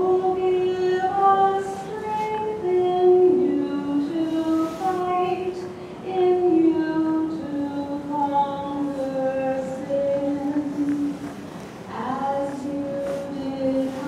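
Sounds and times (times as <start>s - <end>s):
single high voice singing a hymn: 0.0s - 11.3s, 11.9s - 14.0s.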